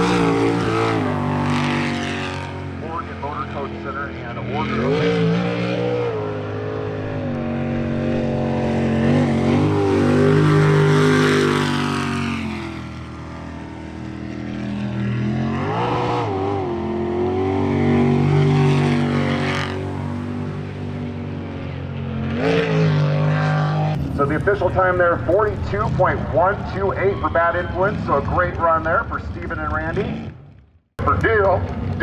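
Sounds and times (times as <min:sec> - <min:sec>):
boat engine revving: 0:00.0 - 0:28.8.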